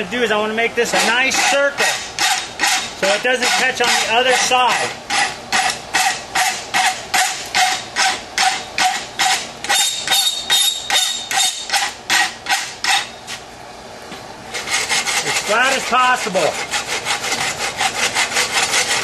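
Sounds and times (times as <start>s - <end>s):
rasp scraping steel: 0.8s - 13.4s, 14.5s - 19.0s.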